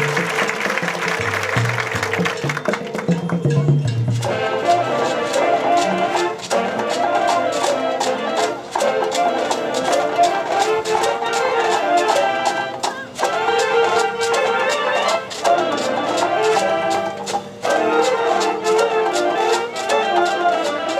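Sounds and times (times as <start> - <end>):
drum and percussion hits: 0.0 - 20.9
marching band playing: 0.0 - 20.9.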